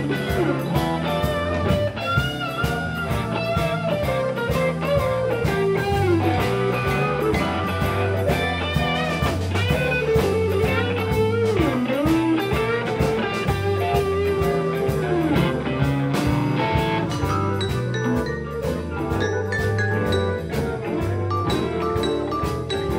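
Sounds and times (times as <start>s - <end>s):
bass guitar: 0.0s - 22.9s
drum kit: 0.0s - 22.9s
electric guitar lead: 0.0s - 22.9s
keyboard: 0.0s - 22.9s.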